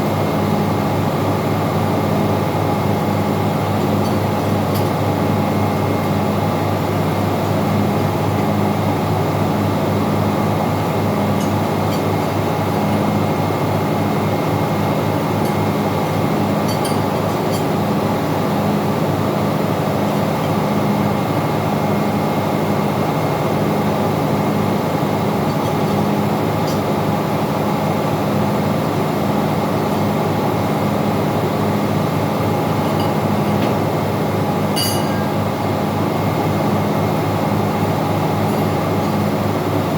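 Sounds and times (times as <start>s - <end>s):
engine room machinery hum: 0.0s - 39.9s.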